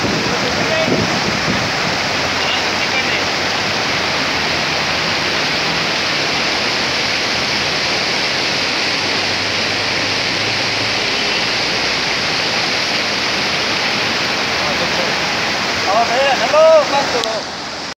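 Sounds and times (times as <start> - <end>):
river rushing over rocks: 0.0 - 17.9.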